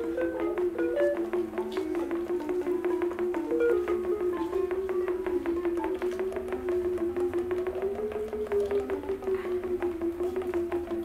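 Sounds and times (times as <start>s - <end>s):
plinking mallet notes: 0.0s - 11.0s.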